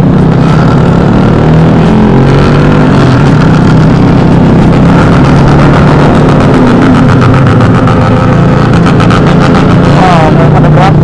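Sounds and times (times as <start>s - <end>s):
motorcycle with loud exhaust: 0.0s - 11.0s.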